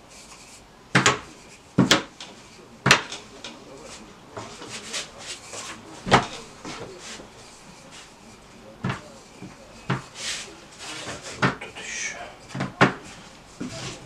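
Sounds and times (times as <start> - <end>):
rolling pin rolling dough: 0.0 - 11.6.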